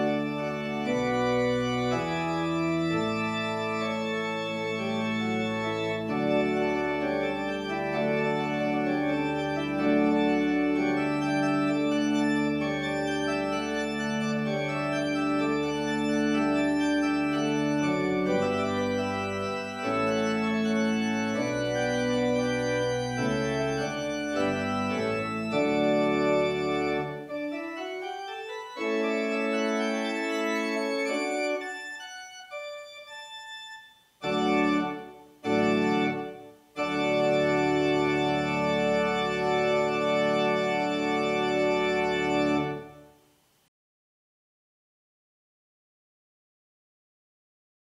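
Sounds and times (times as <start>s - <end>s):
organ playing sustained chords: 0.0s - 43.0s.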